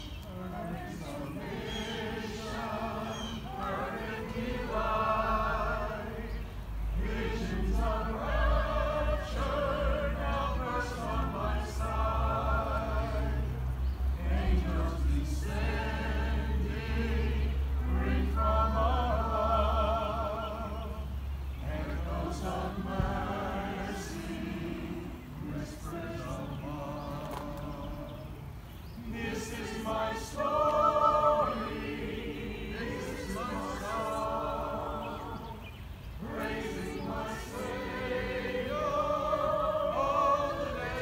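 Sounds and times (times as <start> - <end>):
choir singing: 0.0 - 41.0.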